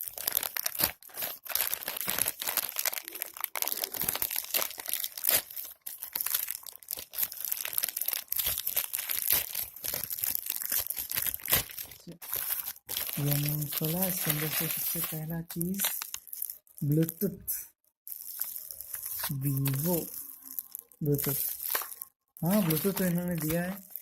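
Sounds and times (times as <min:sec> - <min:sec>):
packaging crinkling and tearing: 0:00.0 - 0:24.0.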